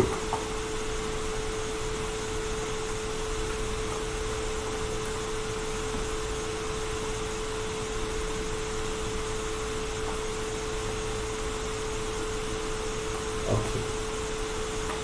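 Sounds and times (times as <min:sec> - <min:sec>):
constant hum tone: 0:00.0 - 0:15.0.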